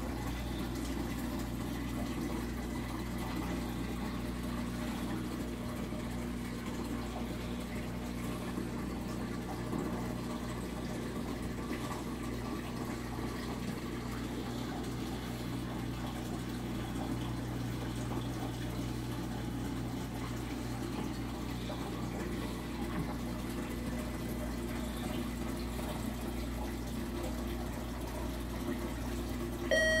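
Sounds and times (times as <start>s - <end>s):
aquarium pump hum: 0.0s - 30.0s.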